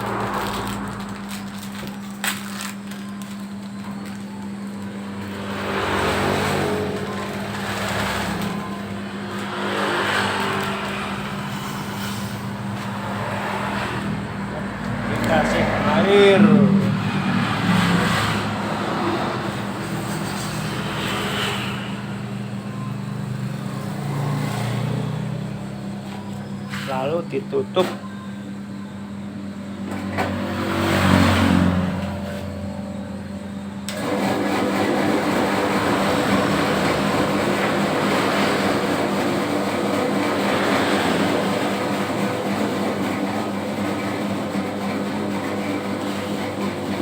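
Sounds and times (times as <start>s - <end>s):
dough mixer motor humming: 0.0s - 27.0s, 28.4s - 47.0s.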